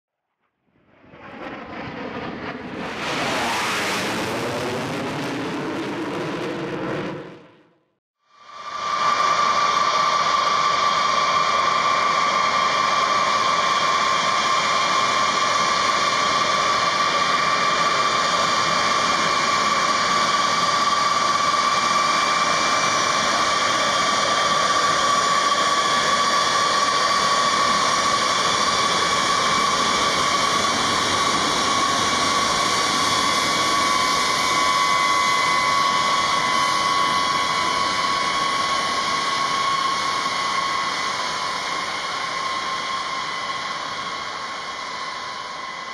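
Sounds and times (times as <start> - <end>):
jet engines whining: 0.9 - 7.7, 8.4 - 45.9.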